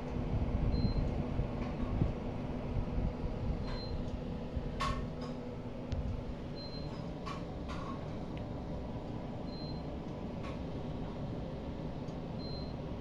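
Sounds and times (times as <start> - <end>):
fan heater blower whirring: 0.0 - 13.0.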